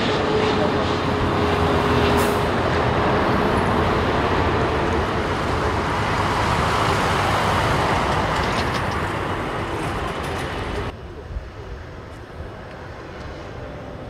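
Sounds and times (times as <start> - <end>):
jet engine rush: 0.0 - 14.0.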